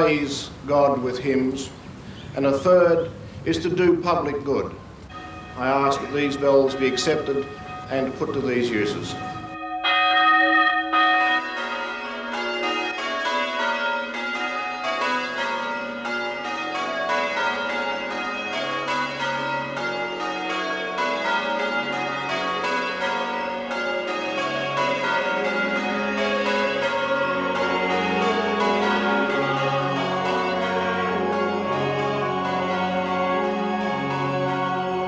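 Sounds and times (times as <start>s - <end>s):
church bells ringing in sequence: 0.0s - 1.4s, 3.7s - 35.0s.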